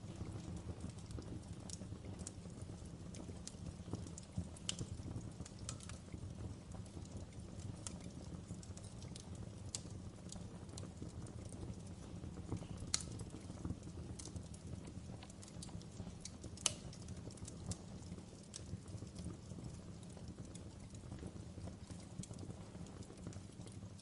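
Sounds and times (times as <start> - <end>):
fire crackling and popping: 0.0 - 24.0
fire flames rumbling: 0.0 - 24.0.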